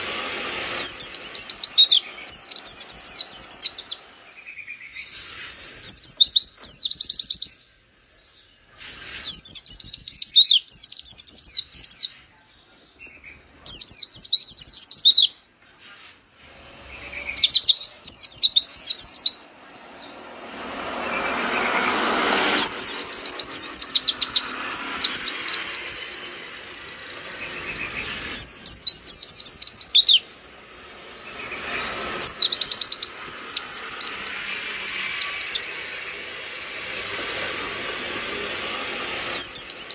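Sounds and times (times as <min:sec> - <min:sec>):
bird chattering song: 0:00.0 - 0:20.3, 0:21.6 - 0:37.2, 0:38.0 - 0:39.9
broad background noise: 0:00.0 - 0:39.9.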